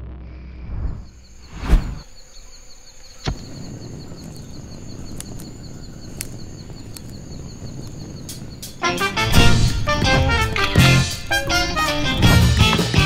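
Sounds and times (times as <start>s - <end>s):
torch flame rushing: 0.6s - 2.2s, 3.1s - 12.2s
flame crackles: 0.7s - 13.0s.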